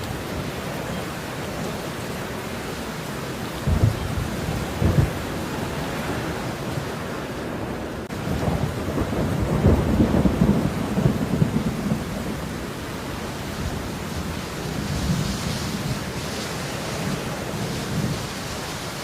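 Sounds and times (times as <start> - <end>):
steady falling rain: 0.0 - 19.0
thunder rumble: 0.0 - 19.0.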